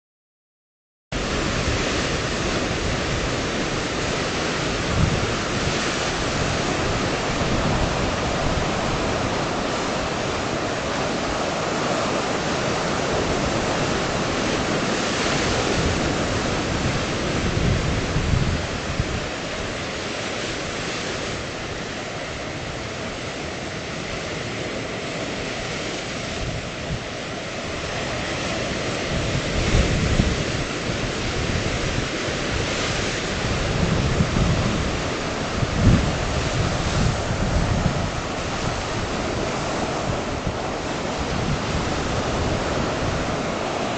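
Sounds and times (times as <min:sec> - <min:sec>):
ocean waves washing ashore: 0:01.2 - 0:43.9
wind buffeting microphone: 0:01.2 - 0:43.9.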